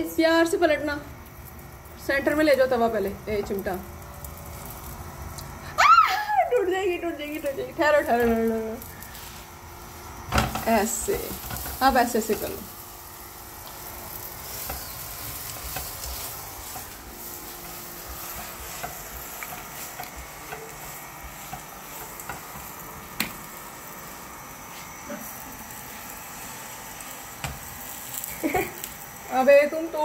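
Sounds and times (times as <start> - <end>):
flatbread sizzling on a pan: 0.0 - 30.0.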